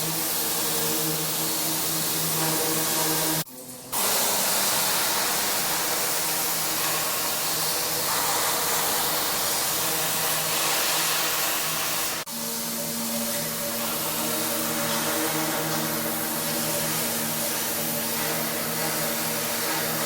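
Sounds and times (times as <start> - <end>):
pressure washer water jet hissing: 0.0 - 20.0.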